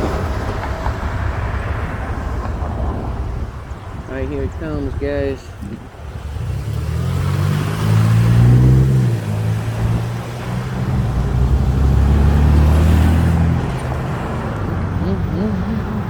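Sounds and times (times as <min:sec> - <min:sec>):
road and wind noise: 0:00.0 - 0:16.0
vehicle engines passing: 0:00.0 - 0:16.0.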